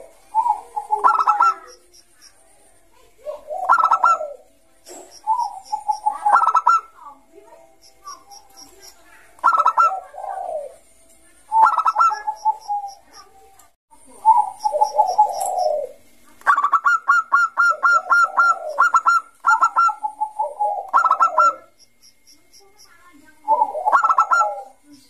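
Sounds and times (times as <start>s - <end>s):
dove cooing: 0.0s - 13.4s, 14.0s - 21.8s, 22.6s - 25.0s
faint bird chirping: 0.0s - 25.0s.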